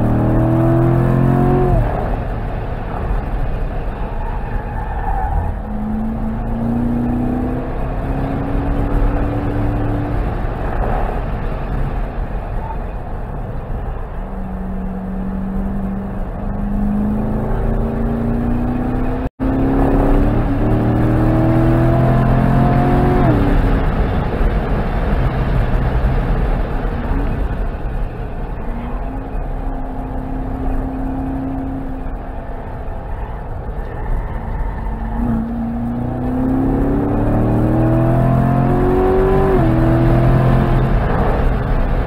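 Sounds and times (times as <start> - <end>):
car engine at full throttle: 0.0 - 42.0.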